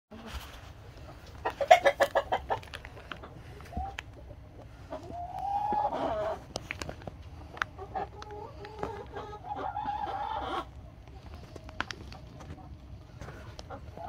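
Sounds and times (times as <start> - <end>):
chickens clucking: 0.1 - 14.0.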